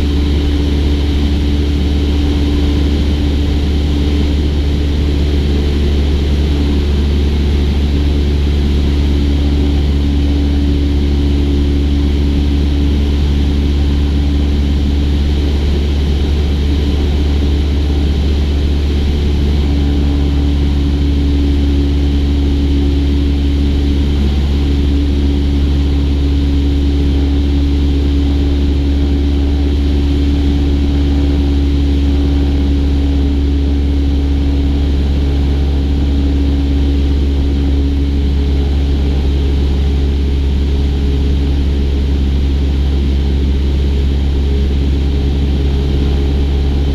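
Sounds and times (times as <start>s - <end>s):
light aircraft engine droning: 0.0s - 46.9s.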